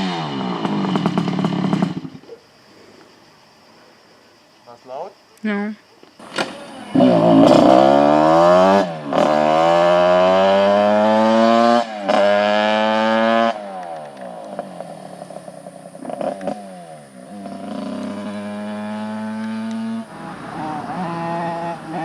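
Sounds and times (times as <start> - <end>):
two-stroke moped engine accelerating: 0.0 - 2.2, 6.2 - 22.0.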